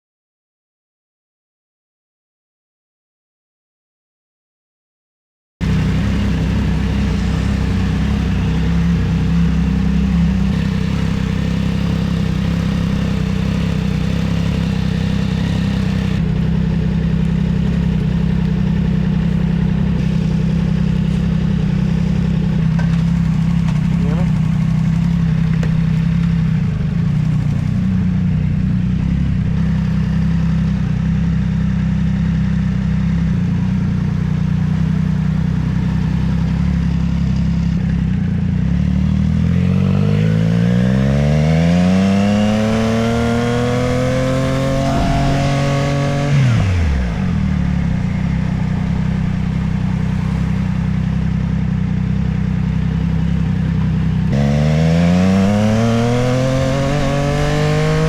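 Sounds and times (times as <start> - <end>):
motorcycle engine revving: 5.6 - 58.0.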